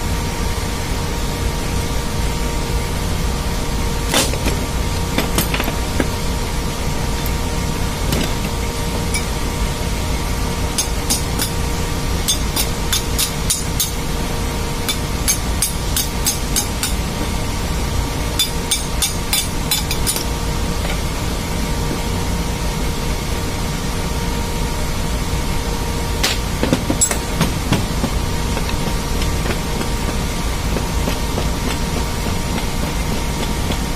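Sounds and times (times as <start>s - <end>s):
ship machinery drone: 0.0s - 33.9s.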